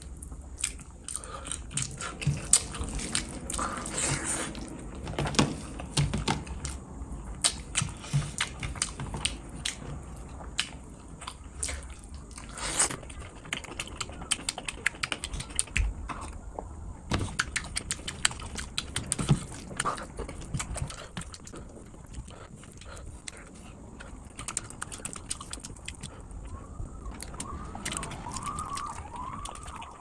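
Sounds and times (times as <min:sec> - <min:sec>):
mouth chewing wetly: 0:00.1 - 0:04.8, 0:07.4 - 0:30.0.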